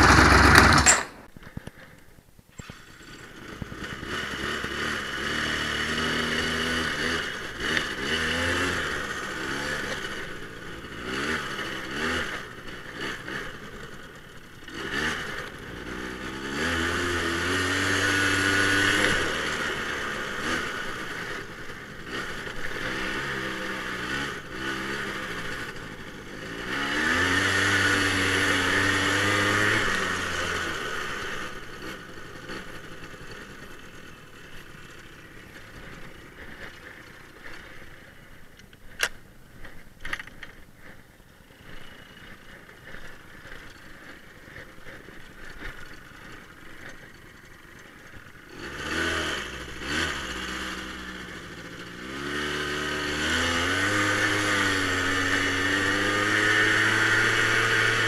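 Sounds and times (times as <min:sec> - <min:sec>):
quad bike engine revving: 0:00.0 - 0:01.2, 0:02.5 - 0:58.0.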